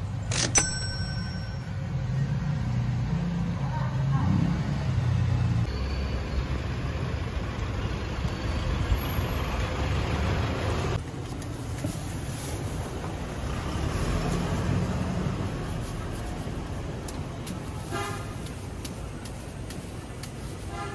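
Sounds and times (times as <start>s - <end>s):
traffic rumble: 0.0s - 20.9s.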